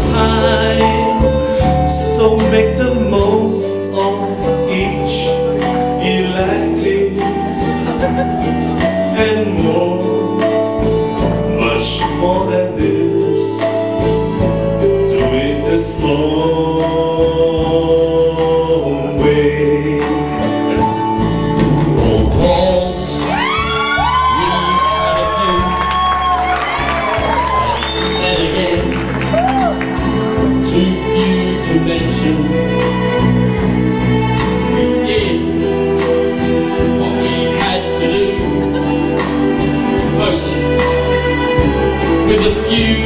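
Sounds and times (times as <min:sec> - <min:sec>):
man singing into microphone: 0:00.0 - 0:33.6, 0:34.6 - 0:39.2, 0:39.8 - 0:40.9, 0:41.7 - 0:43.0
band accompaniment: 0:00.0 - 0:43.0.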